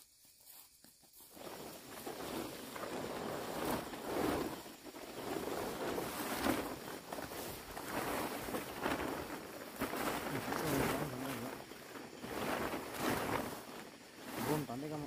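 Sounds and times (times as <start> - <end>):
plastic tarpaulin rustling and crinkling: 1.2 - 15.0.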